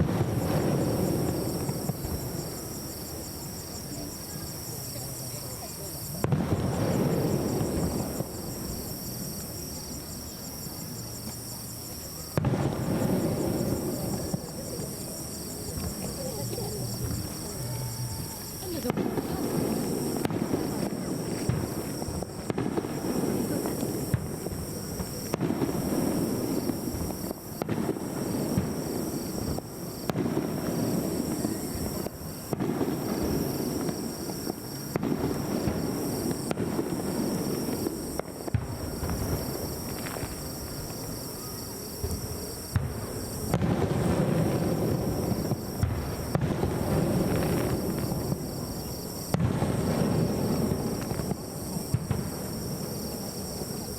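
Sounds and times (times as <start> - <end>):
sharp firework bangs: 0.0 - 53.8
fireworks crackling and booming: 0.0 - 53.9.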